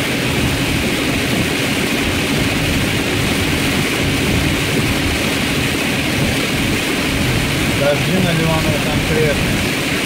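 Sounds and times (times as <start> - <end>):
rain on car body: 0.0 - 10.0
wet tyres hissing on road: 0.0 - 10.0.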